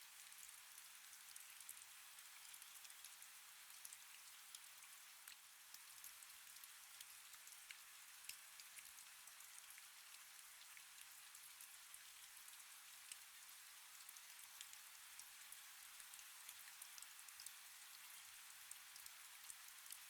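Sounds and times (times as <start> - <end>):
soft steady rain: 0.0 - 20.0.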